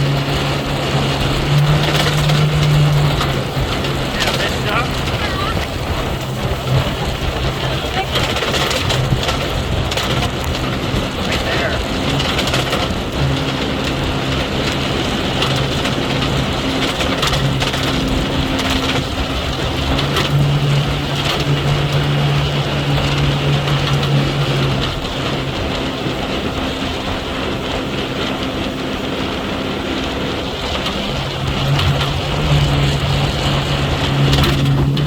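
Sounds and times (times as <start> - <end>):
motorboat engine running: 0.0 - 35.0
rushing wind: 0.0 - 35.0
water rushing: 0.0 - 35.0.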